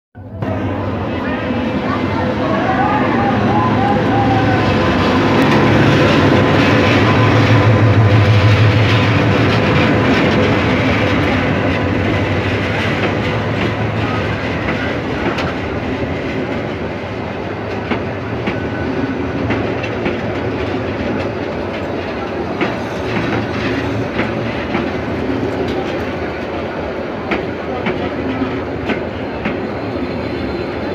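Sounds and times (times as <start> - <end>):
diesel locomotive engine hum: 0.2 - 30.9
clickety-clack of train wheels: 3.8 - 30.9.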